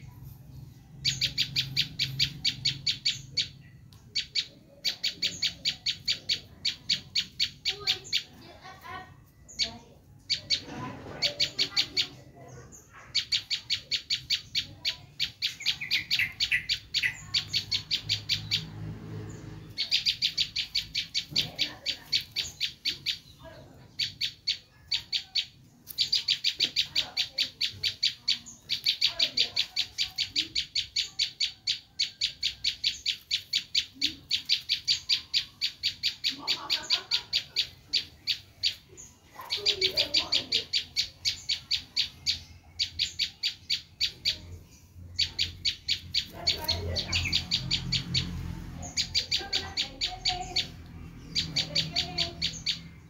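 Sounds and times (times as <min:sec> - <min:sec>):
bird giving shrill rapid calls: 0:01.0 - 0:08.4, 0:13.0 - 0:53.0.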